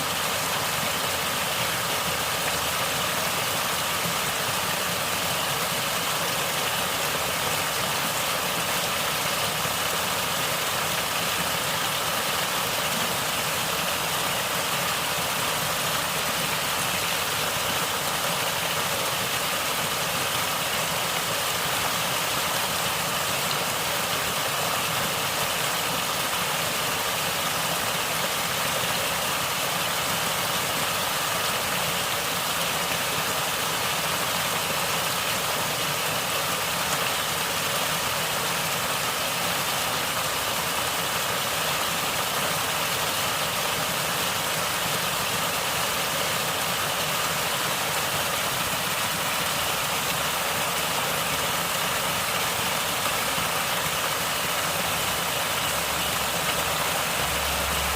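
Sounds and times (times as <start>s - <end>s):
running water gurgling: 0.0s - 57.9s.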